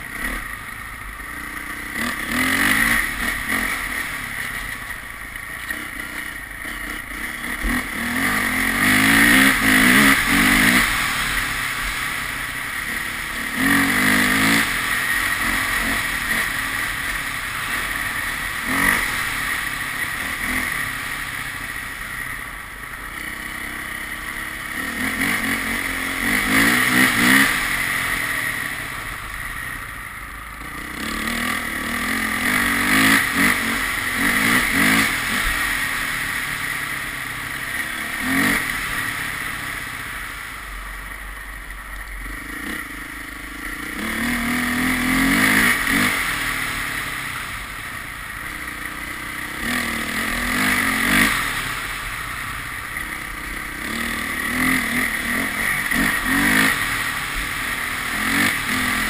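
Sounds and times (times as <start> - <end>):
wind or road noise hiss: 0.0 - 59.0
vehicle engine accelerating: 1.4 - 29.6, 30.6 - 40.6, 42.3 - 59.0.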